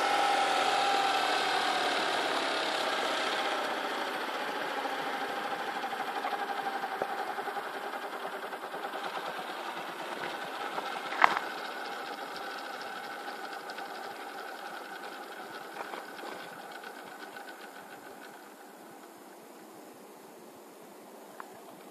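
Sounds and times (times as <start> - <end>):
rotor ticking: 0.0 - 19.2
model helicopter rotor whine: 0.0 - 19.7.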